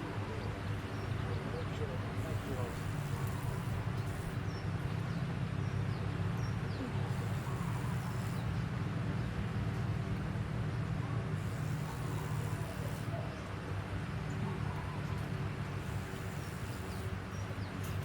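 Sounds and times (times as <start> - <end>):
low mechanical hum: 0.0 - 18.0
outdoor noise: 0.0 - 18.0.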